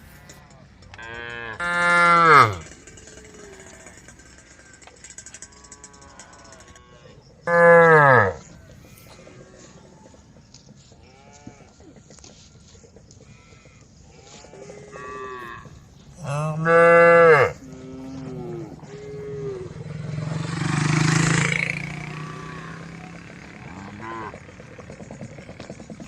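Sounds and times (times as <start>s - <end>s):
cows mooing: 0.2s - 4.4s, 5.2s - 26.0s.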